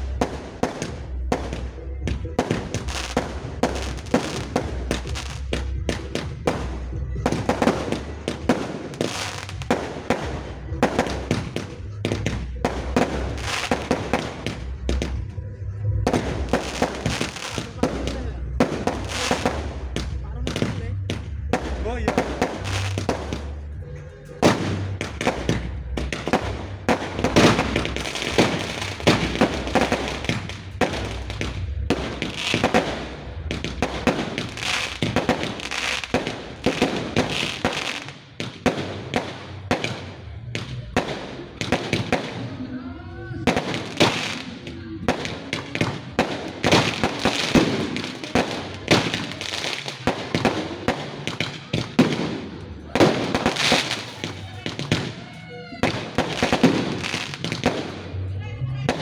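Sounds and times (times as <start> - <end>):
fireworks and firecrackers bangs: 0.0 - 59.0.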